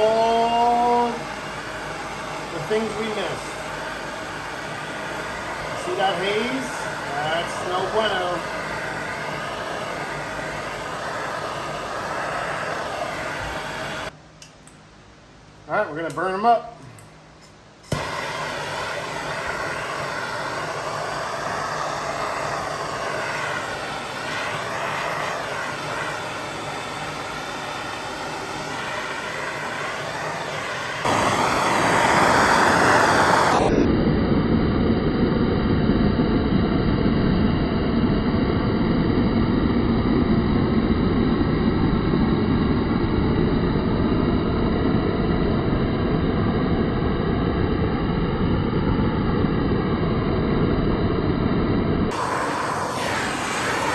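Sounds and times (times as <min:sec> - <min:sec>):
gas torch flame roaring: 0:00.0 - 0:14.8, 0:17.8 - 0:53.9.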